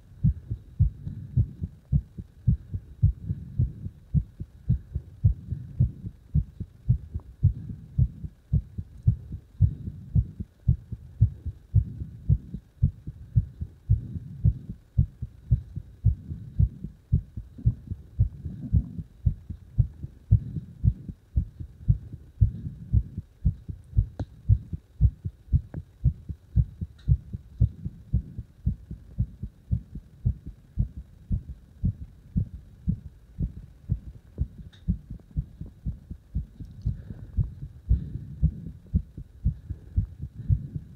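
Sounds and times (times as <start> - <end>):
heart beating: 0.2 - 40.9.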